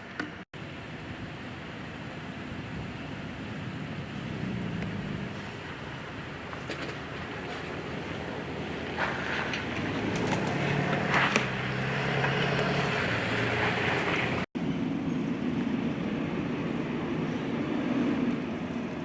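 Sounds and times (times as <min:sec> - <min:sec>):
outdoor noise: 0:00.0 - 0:19.0
steady engine drone: 0:00.0 - 0:19.0.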